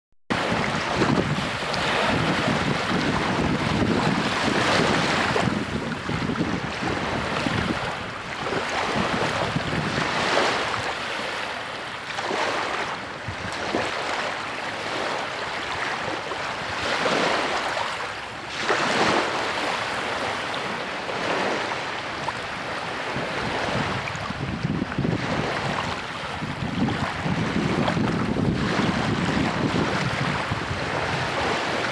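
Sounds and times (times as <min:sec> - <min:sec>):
waves lapping on rocky shore: 0:00.3 - 0:31.9.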